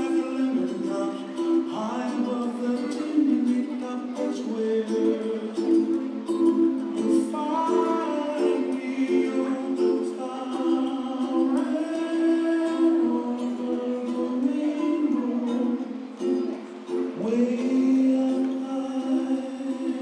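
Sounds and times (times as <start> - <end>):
person singing: 0.0 - 20.0
ukulele: 0.0 - 20.0.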